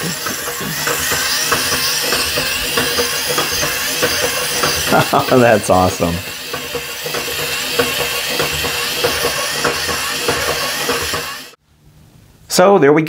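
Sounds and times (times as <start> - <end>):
clockwork running: 0.0 - 11.6
toy robot motor whirring: 0.0 - 11.6.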